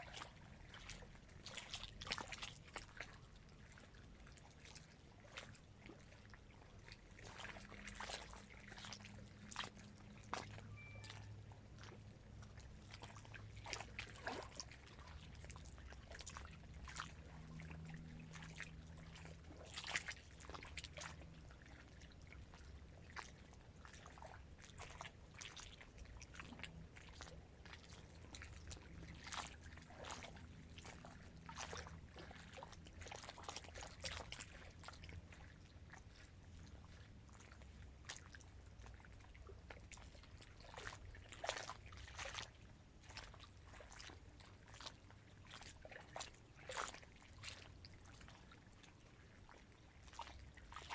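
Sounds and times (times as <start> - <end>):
low steady hum: 0.0 - 50.9
small waves lapping against shore: 0.0 - 50.9.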